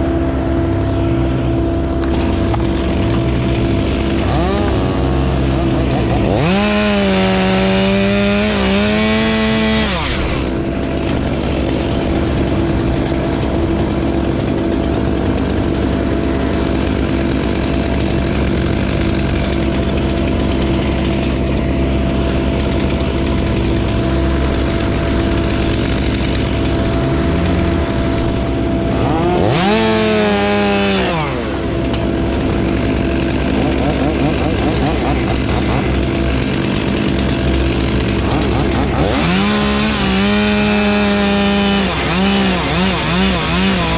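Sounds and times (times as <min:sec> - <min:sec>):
chainsaw at full throttle: 0:00.0 - 0:43.9
low engine drone: 0:00.0 - 0:43.9.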